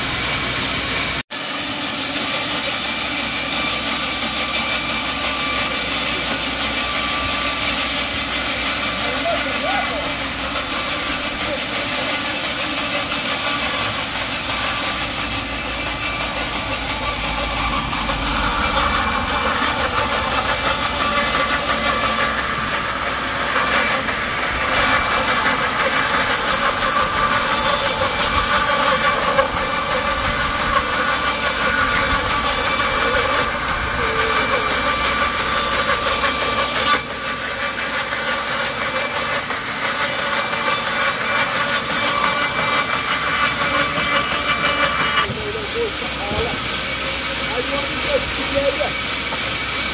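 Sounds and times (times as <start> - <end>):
band saw cutting log: 0.0 - 49.9.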